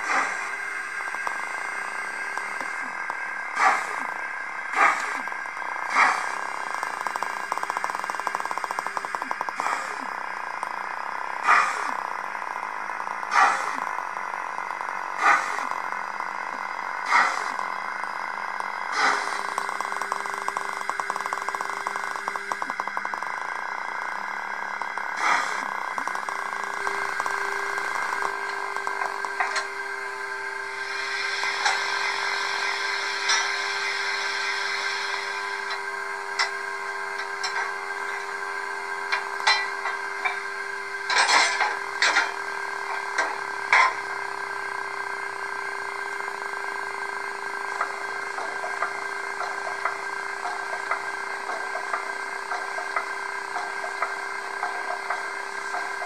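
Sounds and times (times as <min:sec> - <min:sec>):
steady hum: 0:00.0 - 0:56.0
steady tone with rapid clicking: 0:00.0 - 0:56.0
steam locomotive exhaust chuffs: 0:00.0 - 0:56.0.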